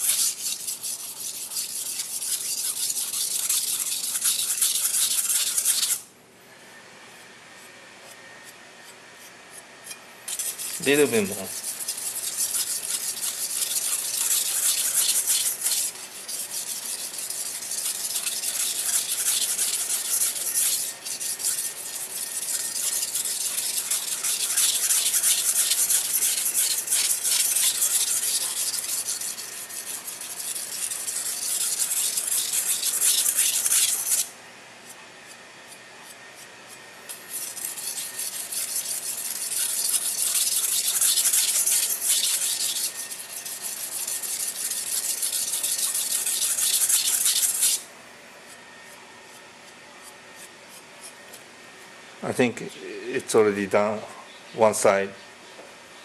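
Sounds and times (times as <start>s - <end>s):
knife rasping on whetstone: 0.0s - 6.0s, 7.2s - 47.8s, 48.4s - 51.4s.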